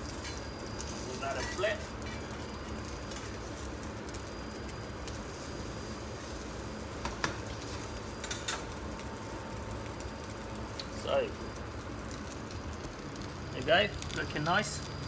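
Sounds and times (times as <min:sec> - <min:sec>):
cake frying in butter: 0:00.0 - 0:15.0.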